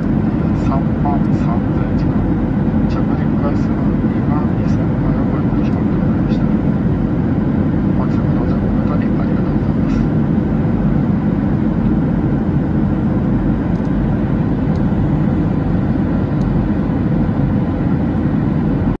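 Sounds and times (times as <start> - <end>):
airplane cabin engine rumble: 0.0 - 19.0
faint hum: 0.0 - 19.0.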